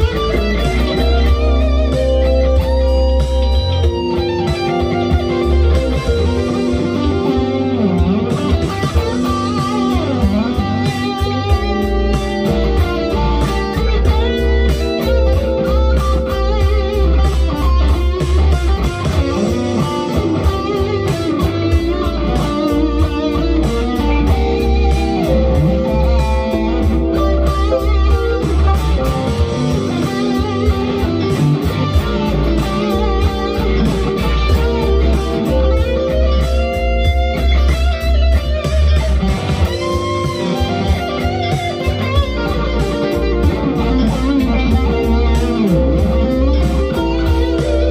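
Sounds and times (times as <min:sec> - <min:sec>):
electric guitar lead lines: 0:00.0 - 0:47.9
funk backing track: 0:00.0 - 0:47.9.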